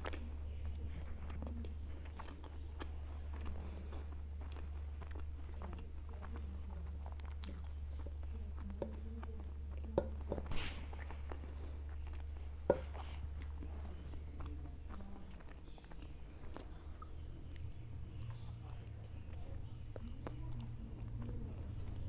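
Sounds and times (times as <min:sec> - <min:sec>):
person chewing food: 0:00.0 - 0:22.0
steady low hum: 0:00.0 - 0:22.0.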